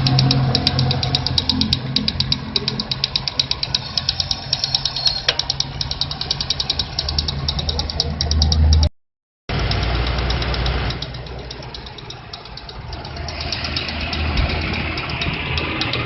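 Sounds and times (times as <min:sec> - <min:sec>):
car engine idling: 0:00.0 - 0:08.9, 0:09.5 - 0:16.0
fast even ticking: 0:00.0 - 0:08.9, 0:09.5 - 0:16.0.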